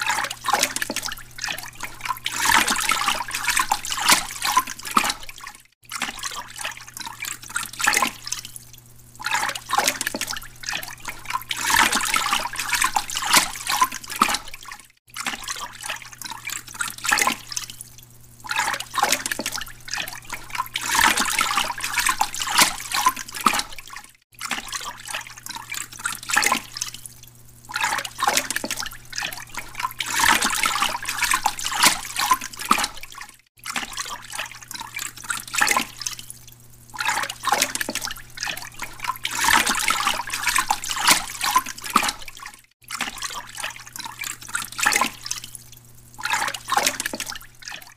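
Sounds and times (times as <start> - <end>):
aquarium water bubbling: 0.0 - 47.9
pump electric hum: 0.0 - 47.9.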